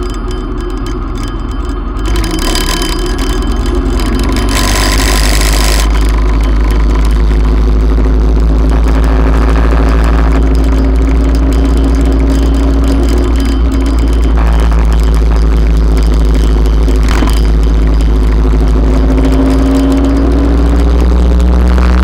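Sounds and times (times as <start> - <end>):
motorcycle engine low rumble: 0.0 - 22.0.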